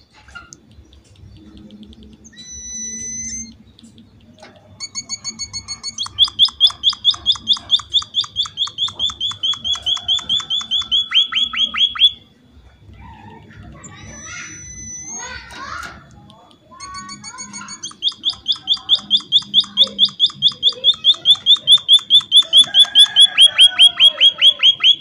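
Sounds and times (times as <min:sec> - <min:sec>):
finch quick repeated chirps: 0:00.6 - 0:12.1, 0:14.0 - 0:15.4, 0:16.8 - 0:25.0.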